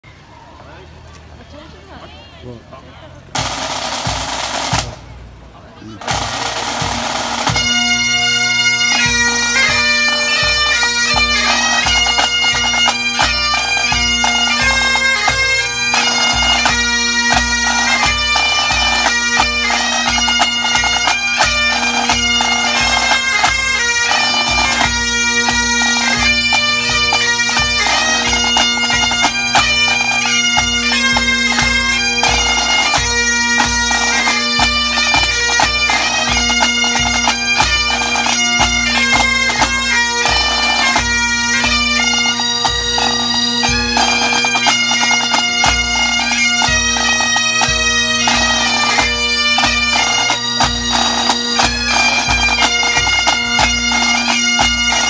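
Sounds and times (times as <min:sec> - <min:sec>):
bagpipes playing: 0:01.4 - 0:05.0, 0:05.8 - 0:55.0.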